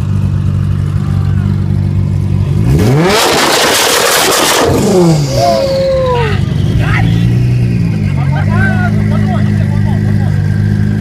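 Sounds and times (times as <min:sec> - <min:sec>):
car exhaust idling and revving: 0:00.0 - 0:11.0.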